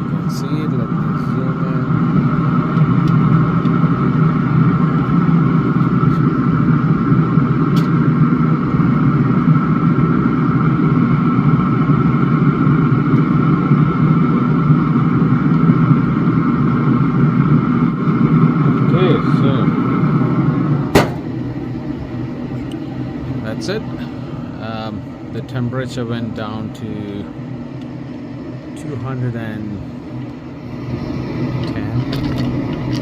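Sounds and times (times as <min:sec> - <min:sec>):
smoker fan humming: 0:00.0 - 0:33.0.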